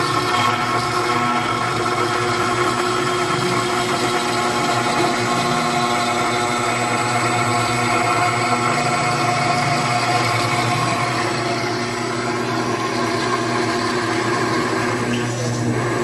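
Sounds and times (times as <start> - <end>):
router spindle whine milling metal: 0.0 - 16.0.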